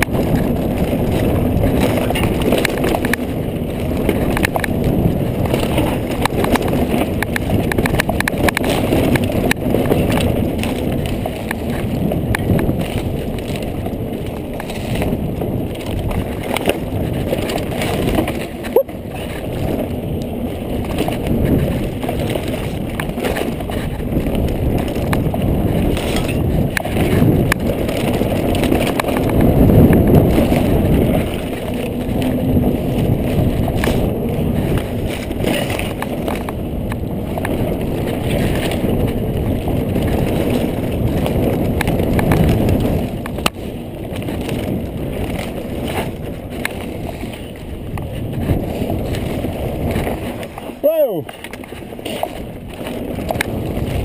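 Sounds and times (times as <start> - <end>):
bike clicks and rattles: 0.0 - 54.0
wind and tyre noise: 0.0 - 54.0.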